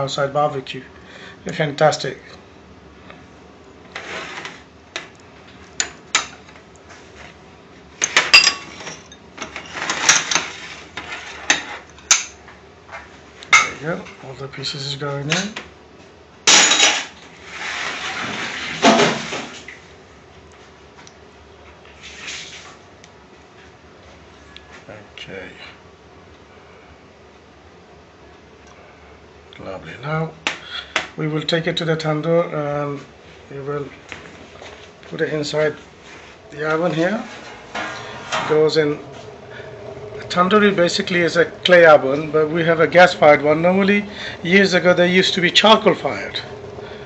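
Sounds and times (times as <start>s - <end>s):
kitchen room tone hum: 0.0s - 47.0s.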